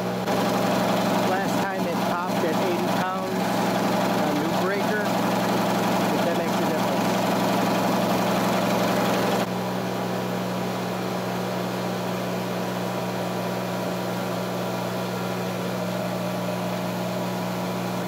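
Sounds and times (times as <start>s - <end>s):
electric air compressor running: 0.0s - 18.0s.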